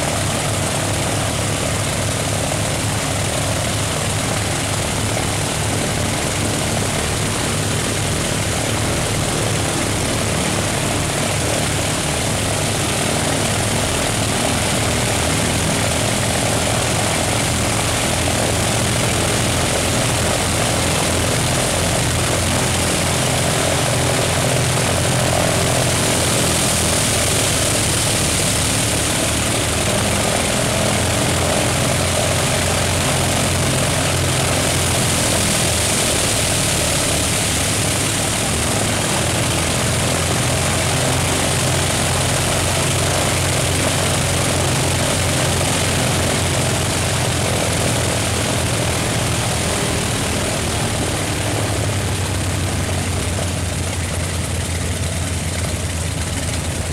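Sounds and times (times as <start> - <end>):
propeller aircraft engines running: 0.0 - 56.9.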